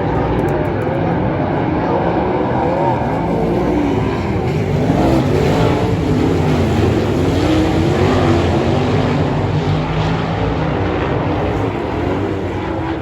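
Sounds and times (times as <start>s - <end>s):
race car engines racing: 0.0s - 13.0s.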